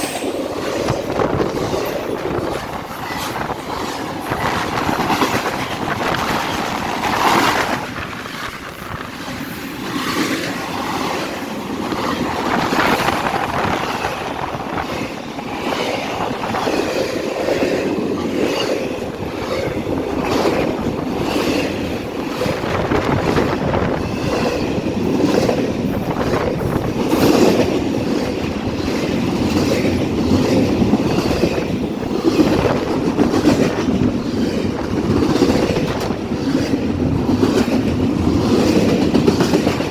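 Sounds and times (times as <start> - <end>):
freight train wheels rumbling: 0.0 - 39.9
wheels clacking over rail joints: 0.0 - 39.9.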